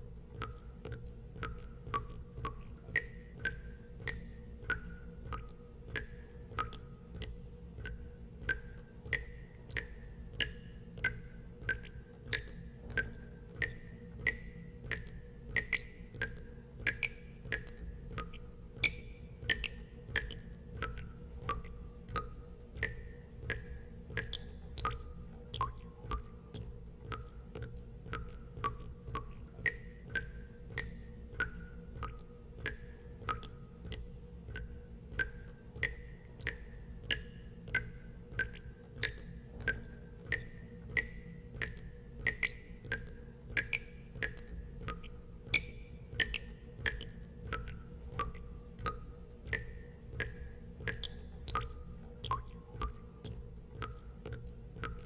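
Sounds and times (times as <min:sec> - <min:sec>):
steady low hum: 0:00.0 - 0:55.0
water drops plinking into water: 0:00.0 - 0:55.0.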